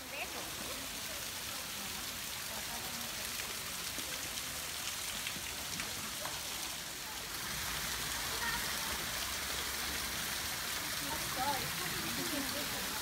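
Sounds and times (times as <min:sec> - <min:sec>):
water drips: 0:00.0 - 0:13.0
water trickling down rock: 0:00.0 - 0:13.0.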